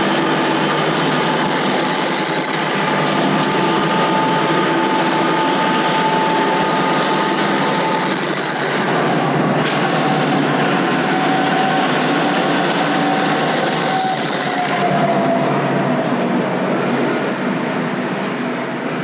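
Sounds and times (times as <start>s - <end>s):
diesel locomotives passing: 0.0s - 19.0s
high thin whine: 0.0s - 19.0s.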